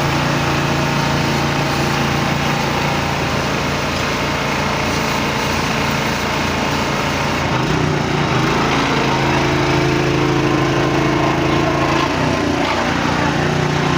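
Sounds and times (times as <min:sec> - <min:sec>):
generator engine running: 0:00.0 - 0:13.9.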